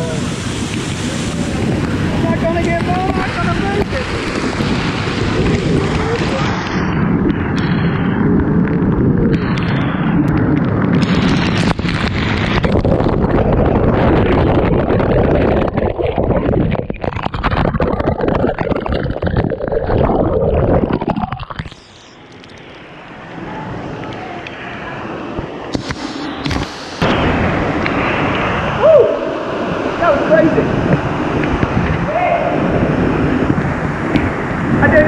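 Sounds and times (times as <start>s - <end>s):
waterfall rushing and splashing: 0.0s - 7.0s, 10.9s - 35.0s
wind buffeting microphone: 0.0s - 35.0s.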